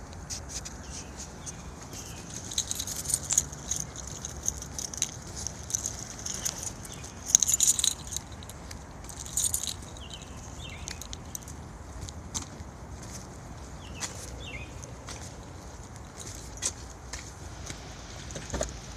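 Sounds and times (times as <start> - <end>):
engine humming: 0.9 - 18.9.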